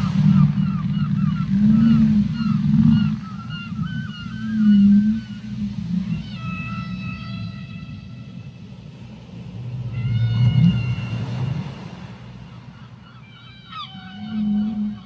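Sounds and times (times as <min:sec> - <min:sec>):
constant low rumble: 0:00.0 - 0:15.0
whale calls: 0:00.0 - 0:15.0.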